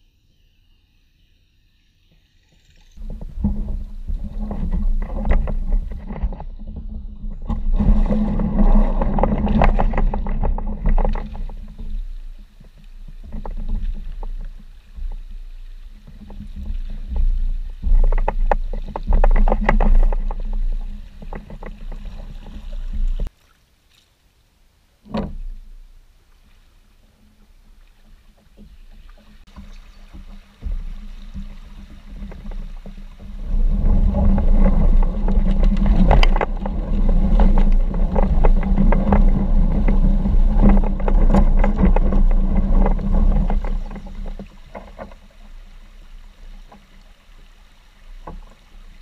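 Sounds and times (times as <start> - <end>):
paddle splashes: 2.8 - 49.0
kayak hull rumble on water: 2.9 - 23.3, 25.0 - 49.0.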